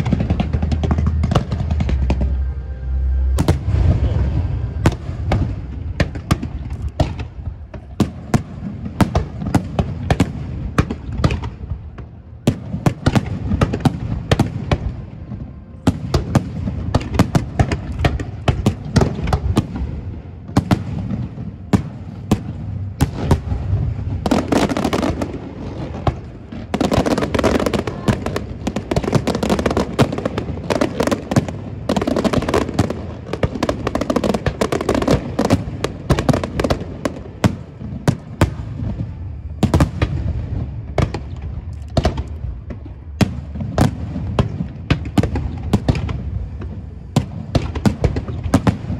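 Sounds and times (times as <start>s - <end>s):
fireworks bursting with bangs: 0.0s - 48.9s
fireworks crackling: 0.0s - 48.9s.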